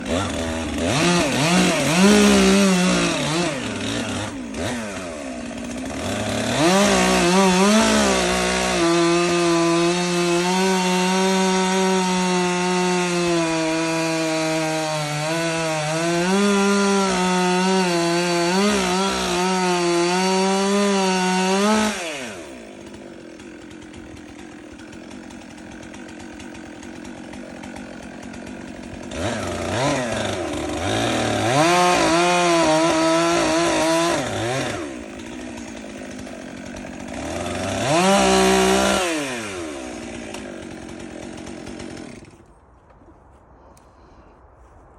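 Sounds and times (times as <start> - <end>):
chainsaw cutting wood: 0.0 - 42.8.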